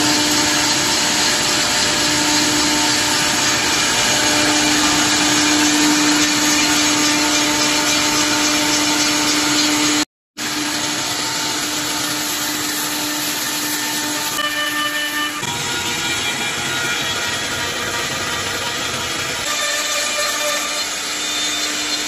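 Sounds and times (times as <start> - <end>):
wood lathe cutting: 0.0 - 22.0.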